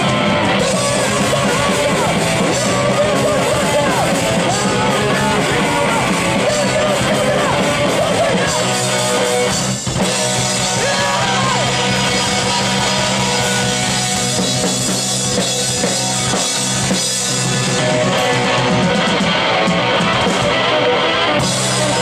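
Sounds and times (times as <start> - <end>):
drum kit: 0.0 - 22.0
electric guitars: 0.0 - 22.0
live rock band playing: 0.0 - 22.0.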